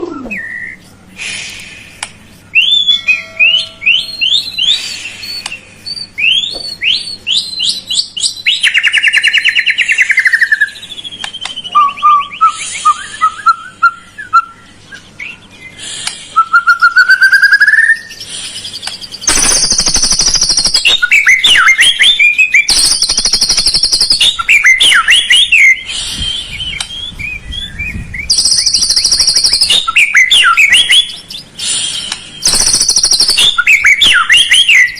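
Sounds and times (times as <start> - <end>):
bird song whistles and trills: 0.0 - 34.9.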